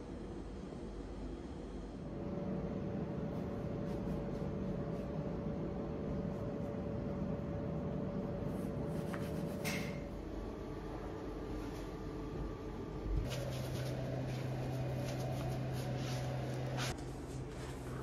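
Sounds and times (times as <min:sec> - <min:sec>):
electric fan motor whirring: 0:01.8 - 0:18.0.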